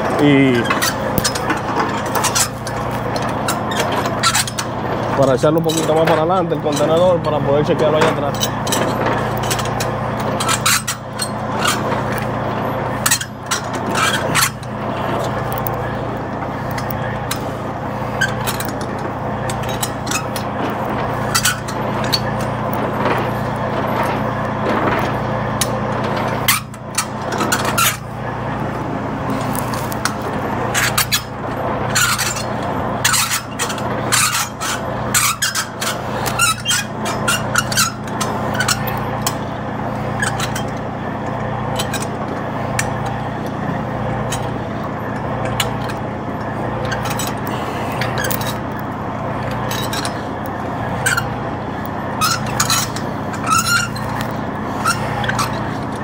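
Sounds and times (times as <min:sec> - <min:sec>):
crank handle clicking and clanking: 0:00.0 - 0:56.0
diesel truck engine idling: 0:00.0 - 0:56.0.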